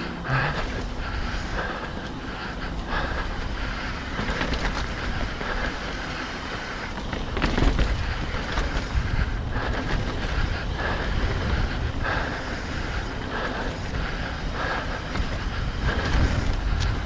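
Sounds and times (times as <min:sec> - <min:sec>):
bike rattling over bumps: 0:00.0 - 0:17.0
bike tyres rolling on dirt: 0:00.0 - 0:17.0.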